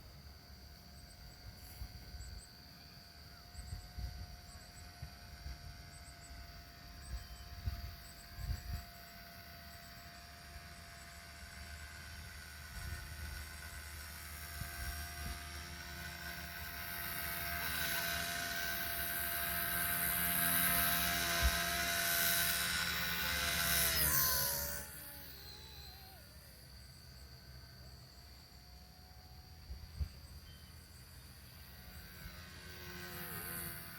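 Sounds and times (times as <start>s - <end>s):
toy helicopter motor whine: 0.0s - 33.9s.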